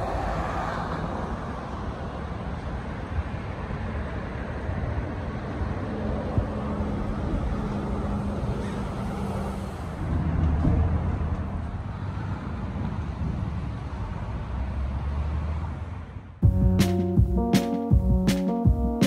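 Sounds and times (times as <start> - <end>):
passing cars rushing: 0.0 - 16.4.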